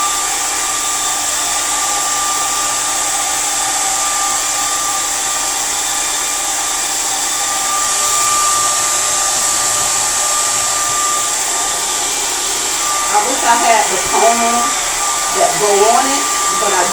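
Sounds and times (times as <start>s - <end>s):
blow dryer running: 0.0s - 16.9s.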